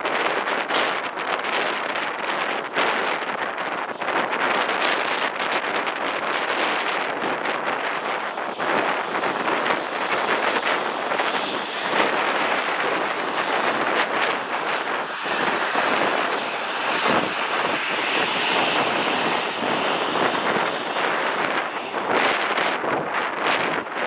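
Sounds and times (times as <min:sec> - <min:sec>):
jet engines with high whine: 0:00.0 - 0:24.0
wind buffeting microphone: 0:00.0 - 0:24.0.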